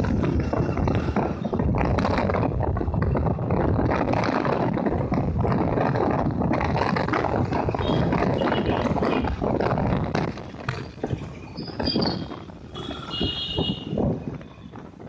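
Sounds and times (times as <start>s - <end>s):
vehicle road noise: 0.0s - 15.0s
wind buffeting microphone: 0.0s - 15.0s.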